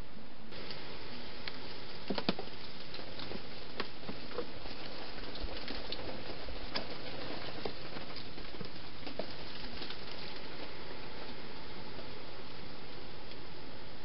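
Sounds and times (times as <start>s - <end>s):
steady hiss: 0.0s - 14.0s
hedgehog rustling in dry leaves: 0.5s - 13.8s.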